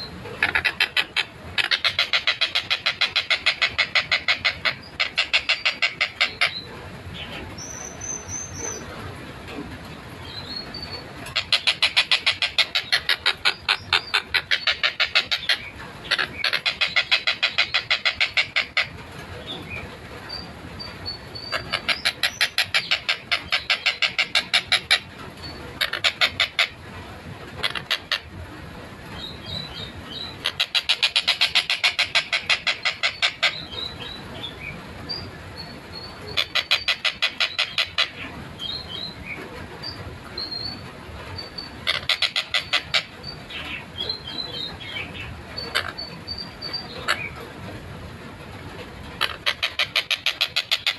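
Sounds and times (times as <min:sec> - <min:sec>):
kingfisher calling: 0:00.0 - 0:08.9, 0:10.4 - 0:19.0, 0:20.3 - 0:26.8, 0:27.6 - 0:28.3, 0:29.2 - 0:39.2, 0:41.4 - 0:47.5, 0:49.2 - 0:50.9.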